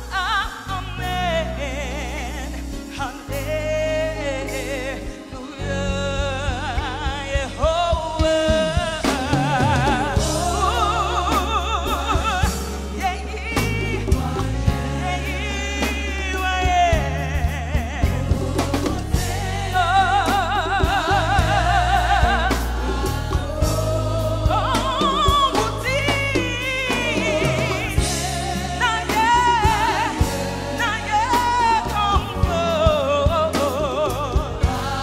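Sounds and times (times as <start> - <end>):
bass line: 0.0 - 35.0
drum kit: 0.0 - 35.0
singers holding long notes: 1.4 - 35.0.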